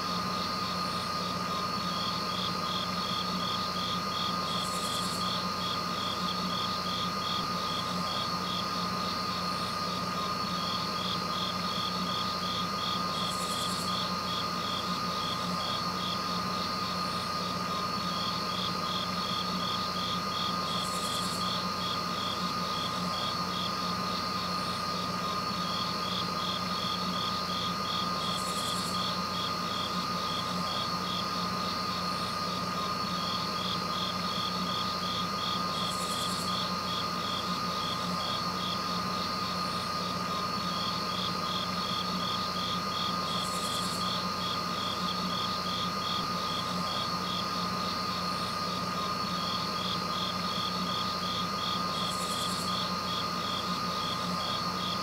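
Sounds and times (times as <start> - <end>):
night insects chirping: 0.0 - 55.0
steady tone and low hum: 0.0 - 55.0.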